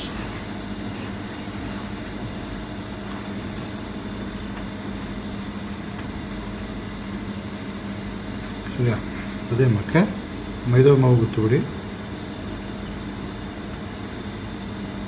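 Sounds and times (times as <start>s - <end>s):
ventilation machinery hum: 0.0s - 15.0s.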